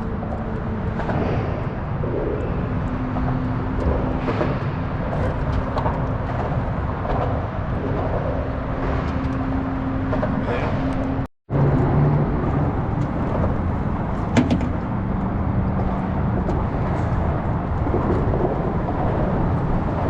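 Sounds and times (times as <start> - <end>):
constant low rumble: 0.0 - 20.0.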